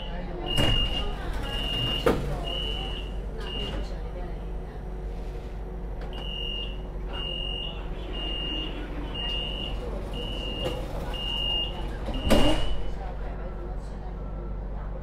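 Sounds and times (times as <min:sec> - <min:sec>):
tram low hum: 0:00.0 - 0:15.0.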